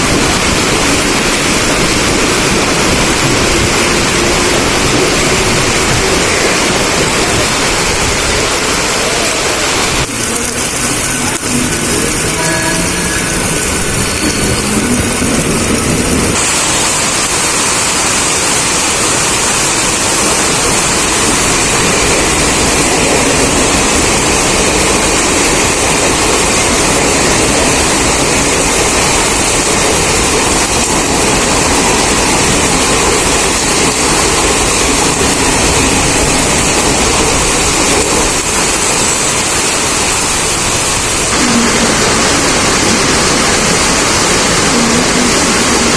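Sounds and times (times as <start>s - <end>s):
heavy rain: 0.0s - 45.9s
train wheels rushing on rails: 0.0s - 45.9s.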